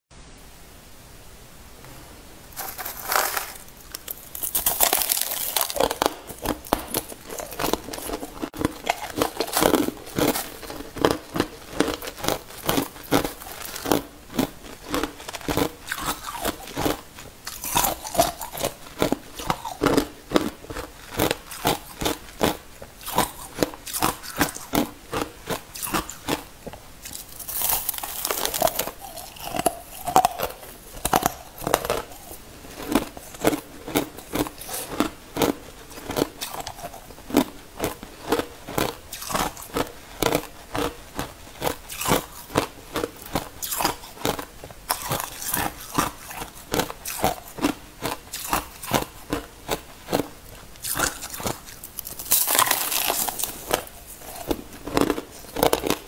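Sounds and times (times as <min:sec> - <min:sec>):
ice being chewed: 0:02.6 - 0:56.0.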